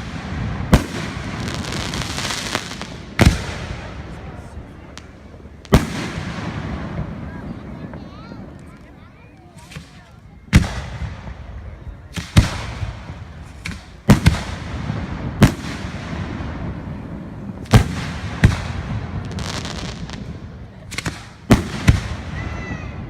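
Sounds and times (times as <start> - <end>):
fireworks booming: 0.0 - 23.0
fireworks crackling: 0.0 - 23.0.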